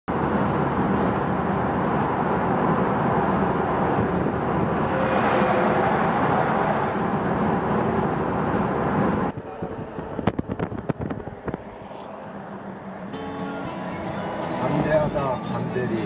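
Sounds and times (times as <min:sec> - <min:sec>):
road and tyre noise in car: 0:00.1 - 0:16.0.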